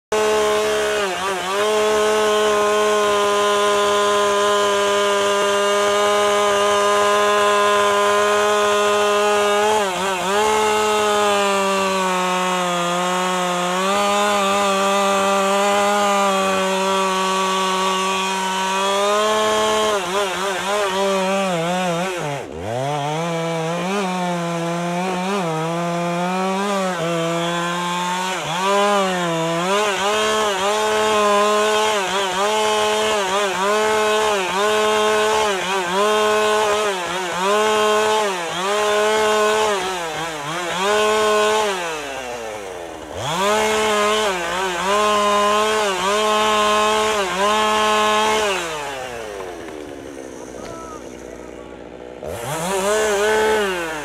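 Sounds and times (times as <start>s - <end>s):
chainsaw cutting wood: 0.1s - 54.0s.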